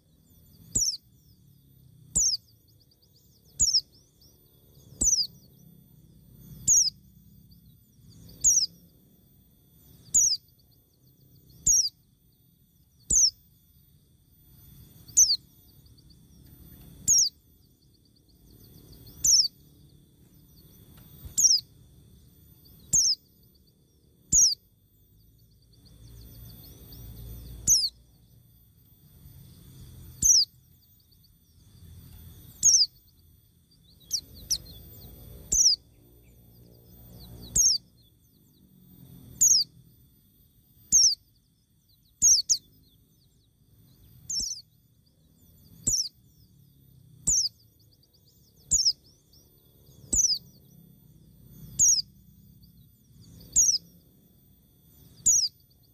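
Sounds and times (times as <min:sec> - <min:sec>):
faint low rumble: 0:00.0 - 0:55.9.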